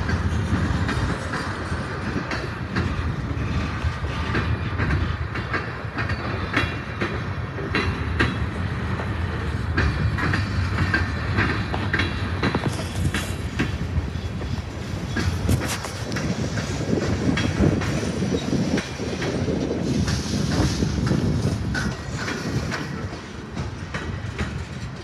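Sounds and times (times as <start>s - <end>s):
freight train wheels rumbling on rails: 0.0s - 25.0s.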